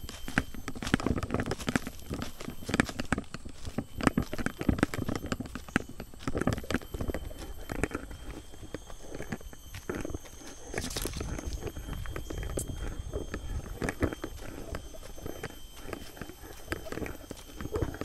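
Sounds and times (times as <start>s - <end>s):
footsteps on a trail: 0.0s - 18.0s.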